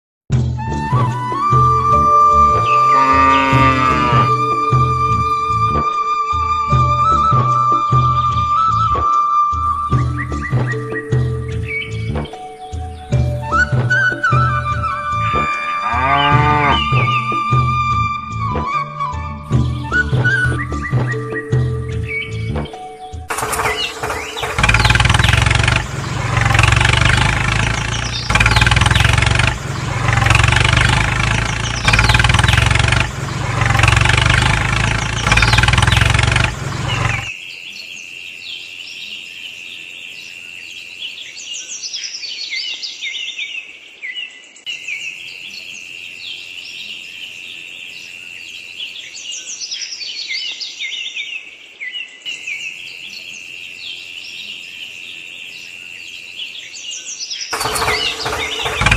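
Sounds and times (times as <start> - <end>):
birds chirping: 0.6 - 8.8, 9.5 - 18.8, 19.5 - 58.9.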